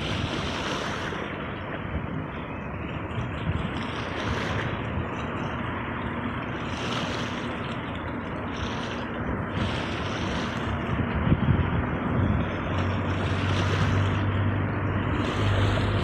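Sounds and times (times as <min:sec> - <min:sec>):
sea waves surf: 0:00.0 - 0:16.0
wind rumbling on microphone: 0:00.0 - 0:16.0.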